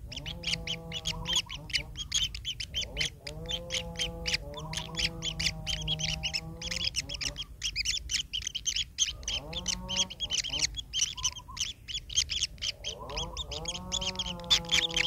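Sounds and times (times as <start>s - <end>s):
low steady hum: 0.0s - 15.0s
nestlings calling: 0.0s - 15.0s.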